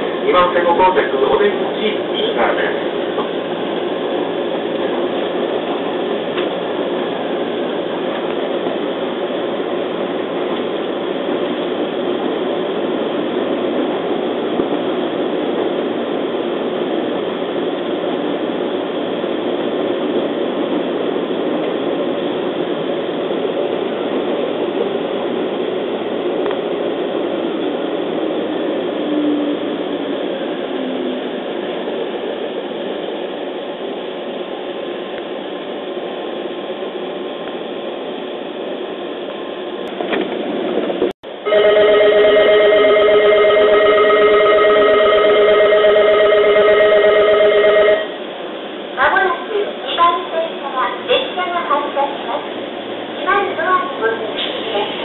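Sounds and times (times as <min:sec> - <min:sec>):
train wheels rumbling on rails: 0:00.0 - 0:41.5, 0:43.7 - 0:55.0.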